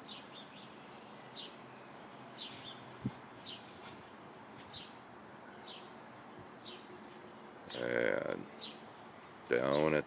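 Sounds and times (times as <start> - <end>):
bird chirping: 0.0 - 10.0
faint outdoor hiss: 0.0 - 10.0.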